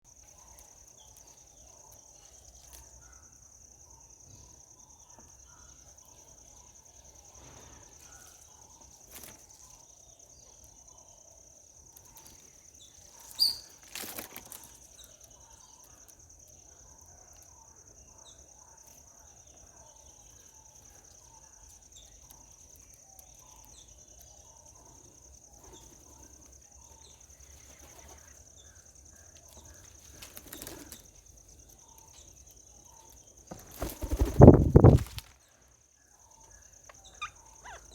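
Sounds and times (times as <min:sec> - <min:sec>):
soft bird chirps: 0:00.1 - 0:37.9.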